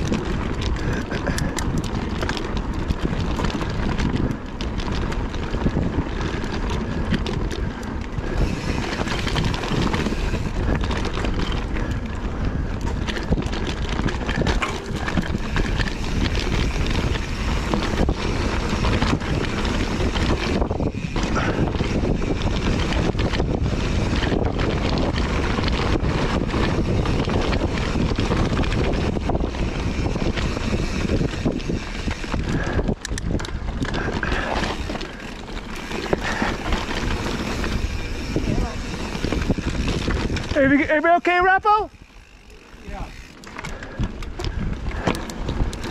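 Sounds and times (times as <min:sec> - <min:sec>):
bike clicks and knocks: 0:00.0 - 0:45.9
bike tyre noise on dirt: 0:00.0 - 0:45.9
wind rushing over microphone: 0:00.0 - 0:45.9.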